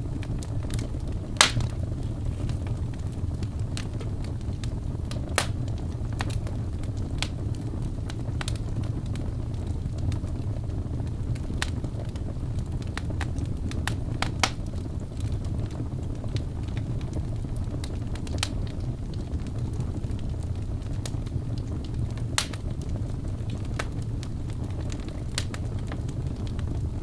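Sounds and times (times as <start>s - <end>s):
logs crackling and popping: 0.0s - 27.0s
low rush of flame: 0.0s - 27.0s.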